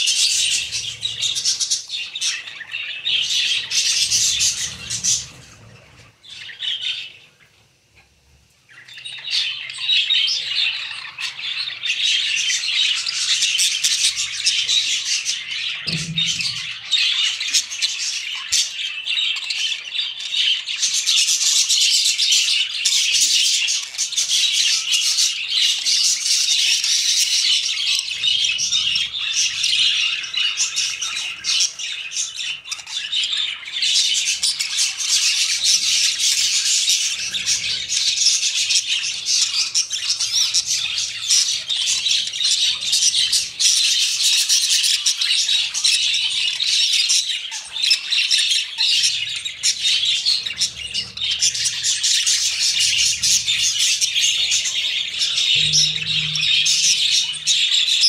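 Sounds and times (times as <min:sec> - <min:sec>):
budgerigars chattering: 0:08.8 - 0:58.0.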